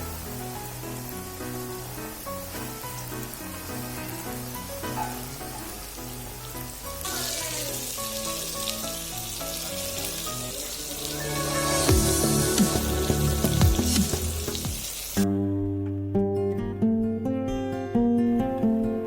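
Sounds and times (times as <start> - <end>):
chicken frying in hot oil: 0.0 - 15.3
background music: 0.0 - 18.8.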